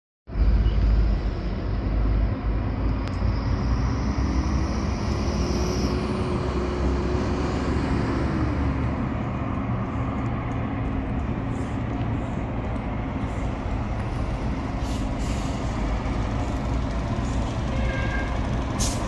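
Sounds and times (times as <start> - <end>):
diesel engine rumbling: 0.3 - 19.0.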